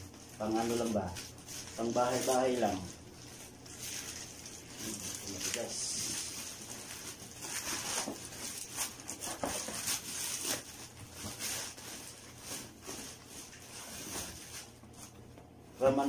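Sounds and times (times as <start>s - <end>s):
plastic bag rustling and crinkling: 0.0s - 16.0s.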